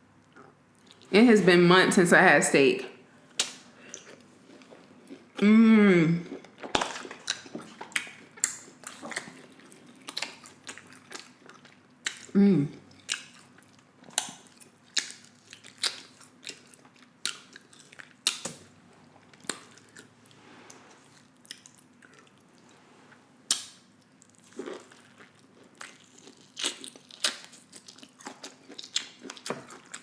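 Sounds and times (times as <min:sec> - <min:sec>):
chewing with mouth clicks: 0:03.4 - 0:05.4, 0:06.3 - 0:22.7, 0:23.5 - 0:30.0.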